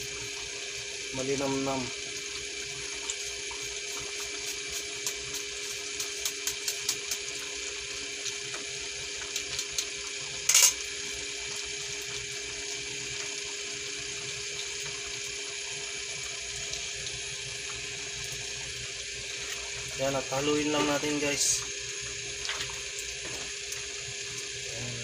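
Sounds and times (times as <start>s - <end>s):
sauce simmering with pops: 0.0s - 24.6s.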